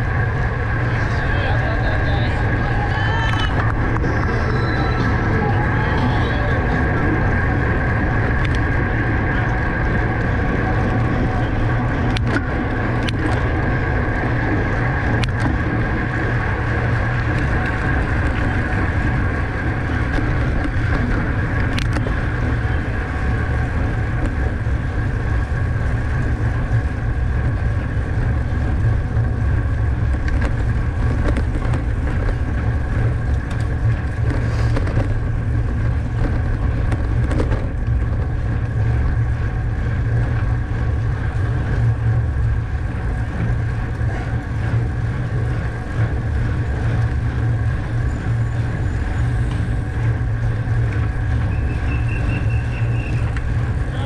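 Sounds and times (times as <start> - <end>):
bicycle road and drivetrain noise: 0.0 - 54.0
wind rushing over microphone: 0.0 - 54.0.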